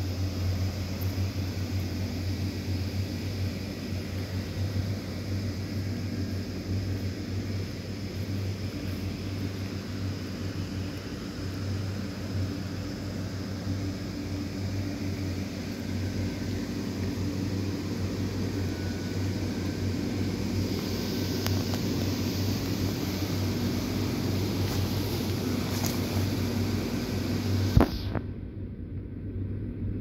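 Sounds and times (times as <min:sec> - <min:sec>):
rain hiss: 0:00.0 - 0:28.2
blower fans humming: 0:00.0 - 0:30.0.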